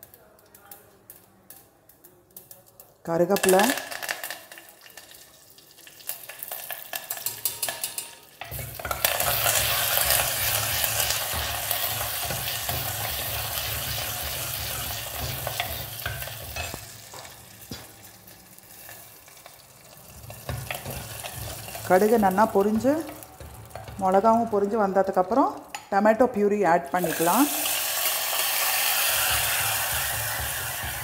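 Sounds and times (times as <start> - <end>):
hot oil sizzling: 3.4 - 25.8, 26.9 - 31.0
ladle stirring: 3.9 - 25.9, 27.0 - 31.0.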